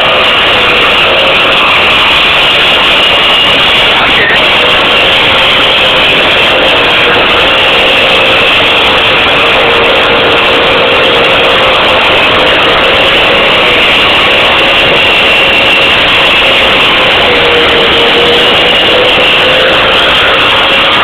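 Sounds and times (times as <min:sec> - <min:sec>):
winch motor whining: 0:00.0 - 0:21.0.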